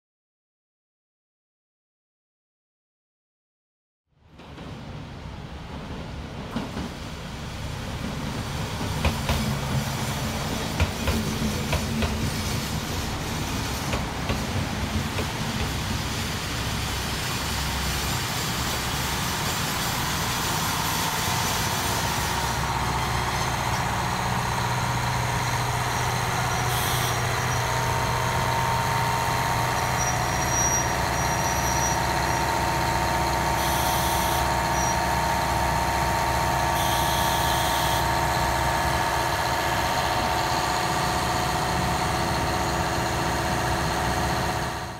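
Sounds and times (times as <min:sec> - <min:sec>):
diesel engine rumble: 0:05.5 - 0:44.9.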